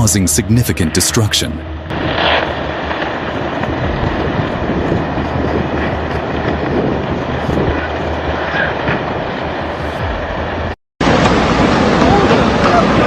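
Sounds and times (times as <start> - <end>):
landslide rumbling and rushing: 0.0 - 13.0.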